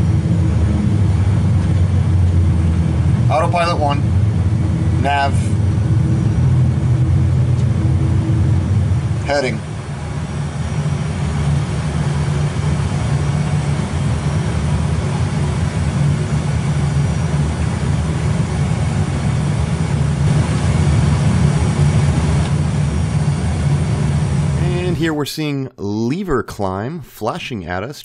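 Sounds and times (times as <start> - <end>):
airflow noise: 0.0 - 25.5
jet engines rumbling: 0.0 - 25.6.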